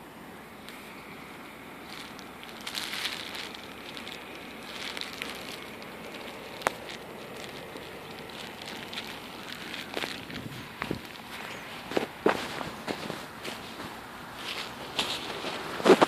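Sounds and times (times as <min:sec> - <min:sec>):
footsteps on dry ground: 0:00.7 - 0:16.0.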